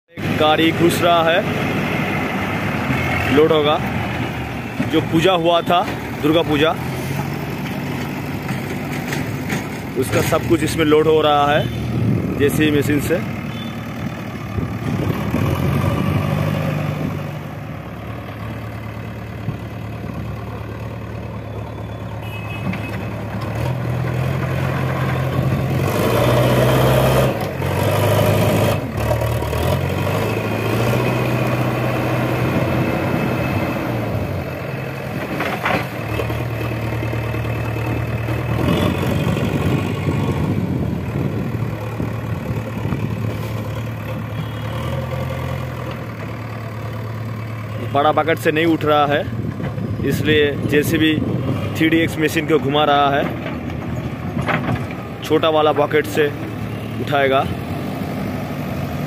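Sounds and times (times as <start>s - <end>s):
diesel engine revving: 0.1s - 59.0s.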